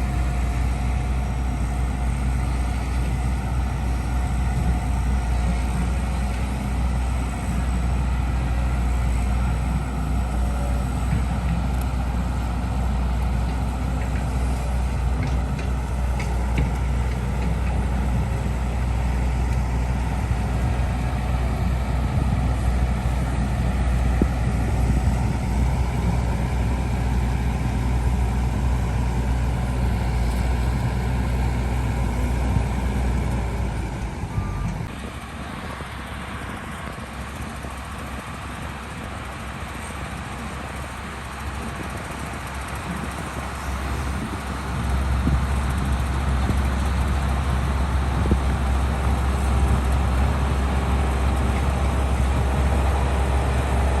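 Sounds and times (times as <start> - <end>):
diesel engine droning under load: 0.0 - 54.0.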